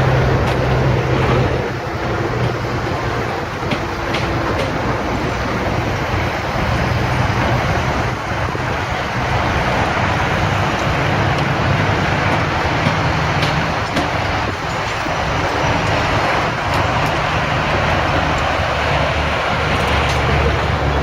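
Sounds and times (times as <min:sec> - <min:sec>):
heavy vehicle engines rumbling: 0:00.0 - 0:21.0
road traffic: 0:00.0 - 0:21.0.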